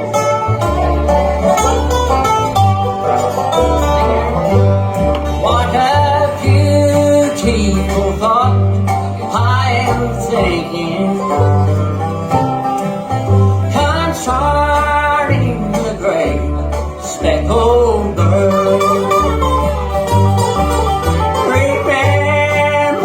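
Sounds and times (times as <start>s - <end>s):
banjo: 0.0s - 23.0s
bass line: 0.0s - 23.0s
guitar: 0.0s - 23.0s.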